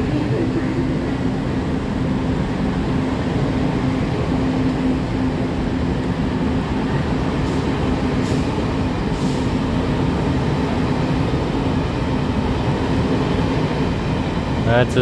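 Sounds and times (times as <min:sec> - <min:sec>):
constant low hum: 0:00.0 - 0:15.0
train wheels rumbling on rail: 0:00.0 - 0:15.0.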